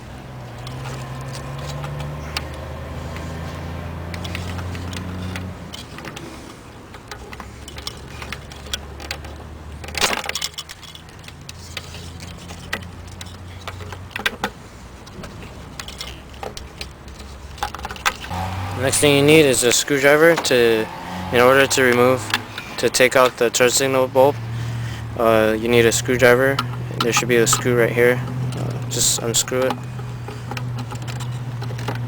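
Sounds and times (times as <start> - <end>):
plastic parts clicking and rattling: 0.6 - 18.4, 21.4 - 32.0.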